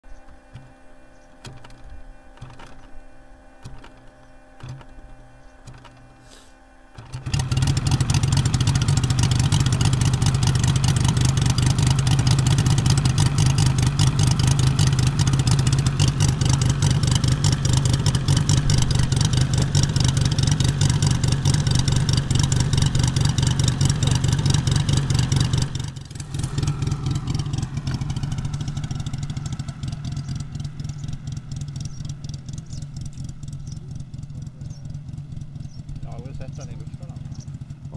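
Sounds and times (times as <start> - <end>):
model airplane engine running: 0.1 - 37.9.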